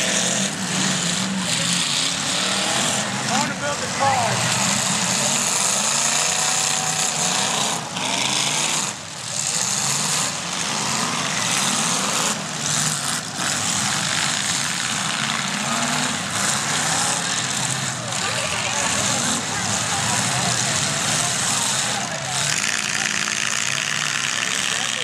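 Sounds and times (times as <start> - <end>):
car engines revving: 0.0 - 25.0
exhaust roar: 0.0 - 25.0.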